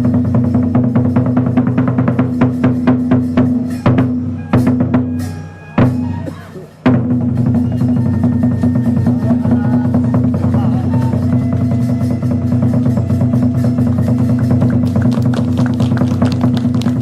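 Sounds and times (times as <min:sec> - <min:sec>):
fast drum strikes: 0:00.0 - 0:17.0.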